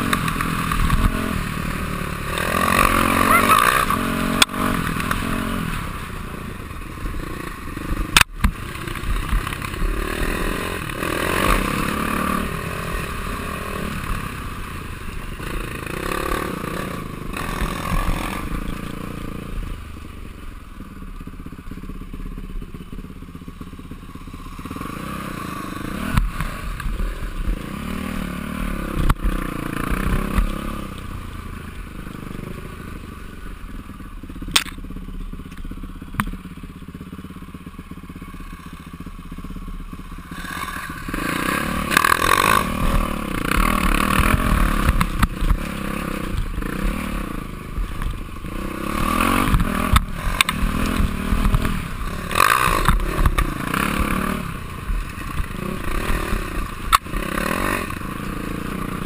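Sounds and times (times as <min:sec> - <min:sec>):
dirt bike engine revving: 0:00.0 - 0:35.2, 0:35.8 - 0:59.0.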